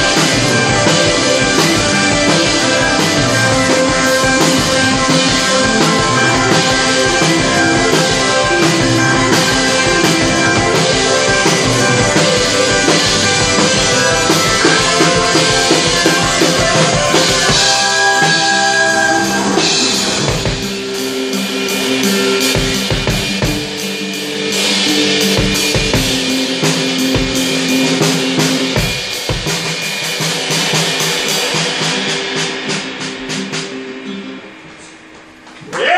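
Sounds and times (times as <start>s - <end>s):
drum strikes: 0.0s - 35.9s
live band playing: 0.0s - 35.9s.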